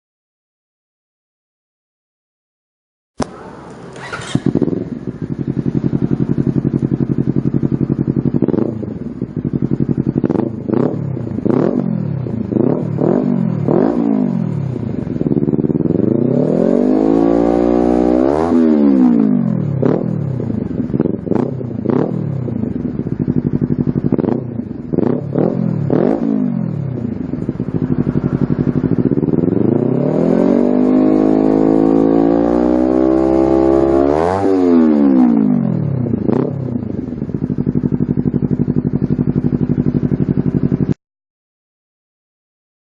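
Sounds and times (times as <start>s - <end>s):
motorcycle engine revving: 3.2s - 41.0s.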